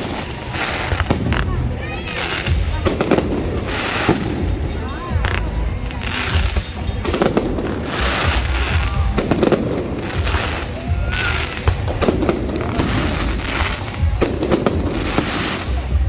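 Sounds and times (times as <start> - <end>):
fireworks bursting and crackling: 0.0 - 16.0
loud show music with heavy bass: 0.0 - 16.0.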